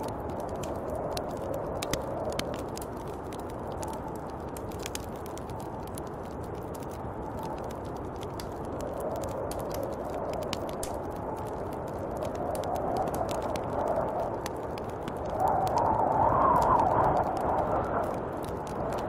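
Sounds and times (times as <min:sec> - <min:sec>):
sharp crackling ticks: 0:00.0 - 0:19.0
wind blowing in gusts: 0:00.0 - 0:19.0.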